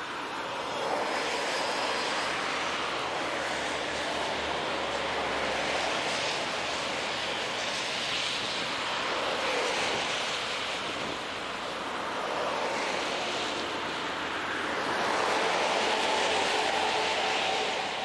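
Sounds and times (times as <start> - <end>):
tyre roar of passing traffic: 0.0 - 18.0
wind noise on microphone: 0.7 - 18.0.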